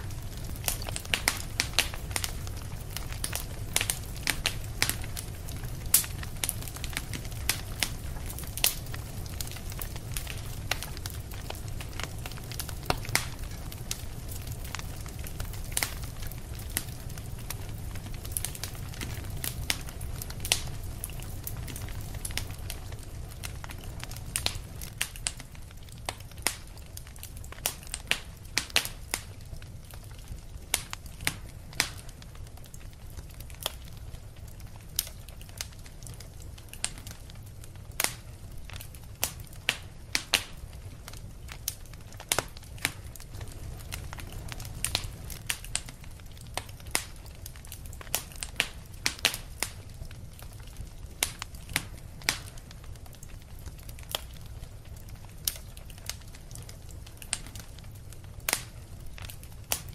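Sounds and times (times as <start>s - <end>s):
low fire rumble: 0.0s - 59.9s
wood fire crackling: 0.0s - 59.9s.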